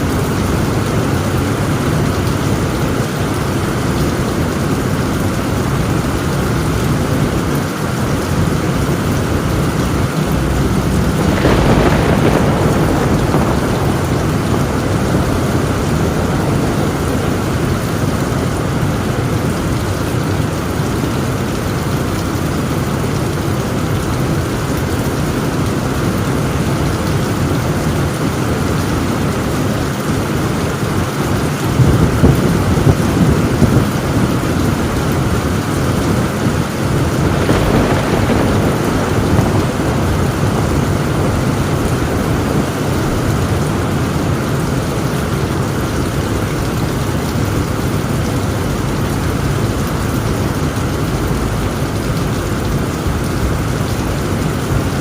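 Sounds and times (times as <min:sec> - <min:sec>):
heavy rain on a tin roof: 0:00.0 - 0:55.0
thunder rumbling: 0:00.0 - 0:55.0.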